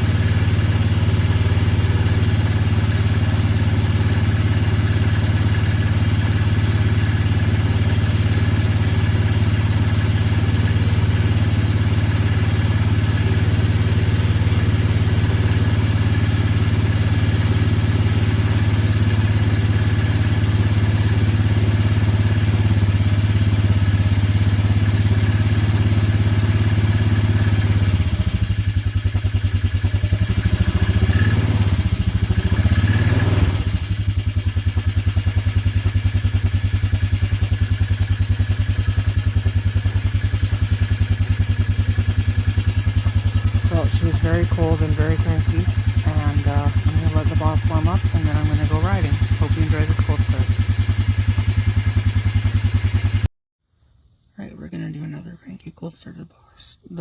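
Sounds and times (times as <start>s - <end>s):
motorcycle engine idling: 0.0s - 53.3s.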